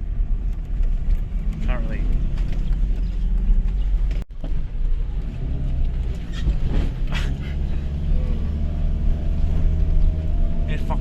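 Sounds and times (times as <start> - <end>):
engine and road rumble inside vehicle: 0.0 - 11.0.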